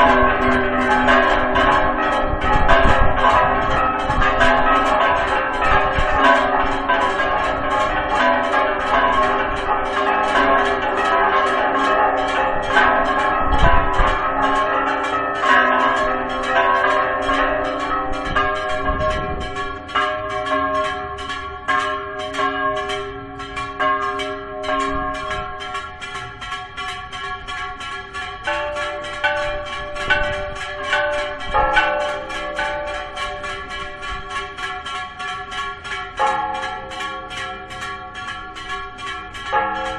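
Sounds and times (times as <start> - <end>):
church bells ringing fast: 0.0 - 39.9
deep bell: 0.0 - 39.9.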